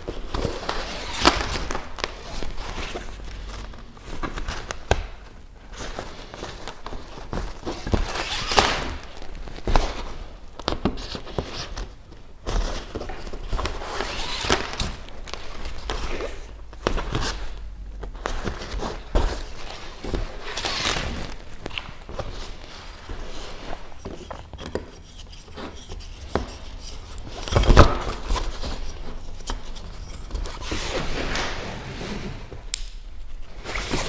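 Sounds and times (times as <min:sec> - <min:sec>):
fabric skin rustling: 0:00.0 - 0:34.0.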